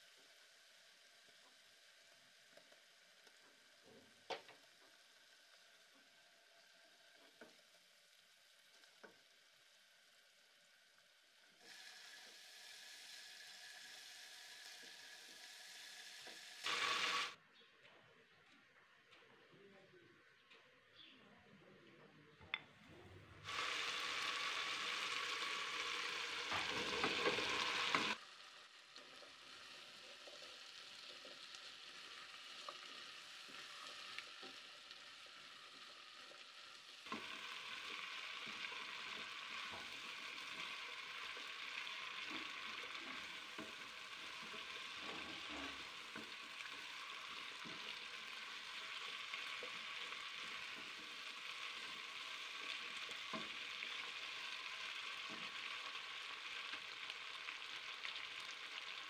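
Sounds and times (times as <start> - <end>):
food sizzling in hot oil: 0.0 - 17.4, 23.4 - 59.0.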